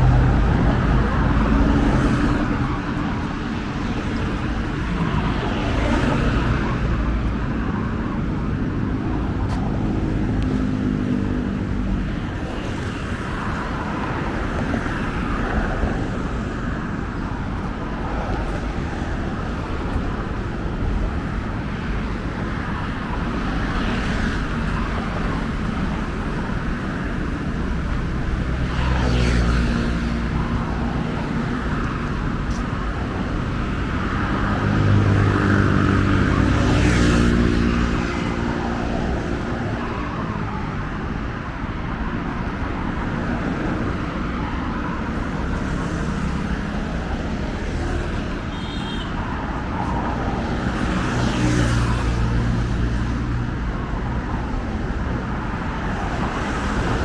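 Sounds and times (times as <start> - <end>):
road traffic noise: 0.0 - 57.0
vehicles passing close by: 0.0 - 57.0.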